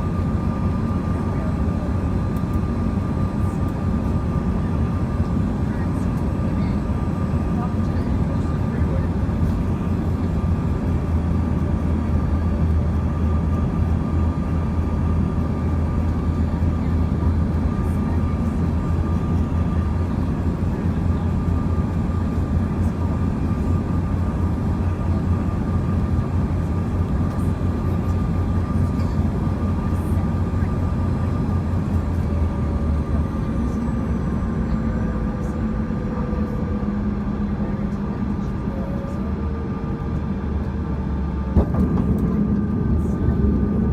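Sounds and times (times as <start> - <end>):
jet engines and airflow rumble: 0.0 - 43.9.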